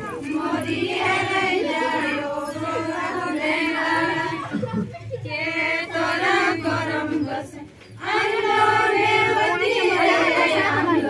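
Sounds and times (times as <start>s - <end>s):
women singing in unison: 0.0s - 11.0s.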